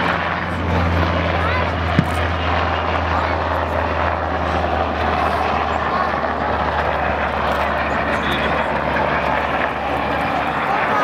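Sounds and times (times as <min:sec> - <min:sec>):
helicopter flying low past: 0:00.0 - 0:11.0.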